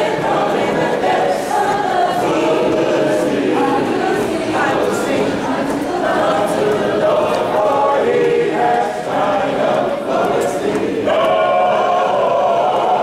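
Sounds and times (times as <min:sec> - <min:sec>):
choir singing: 0:00.0 - 0:13.0
people talking: 0:00.0 - 0:13.0.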